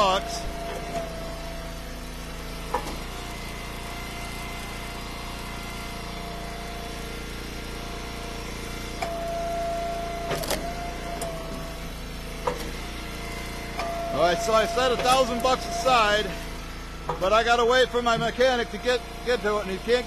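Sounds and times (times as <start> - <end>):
wood splitter engine running: 0.0 - 20.0.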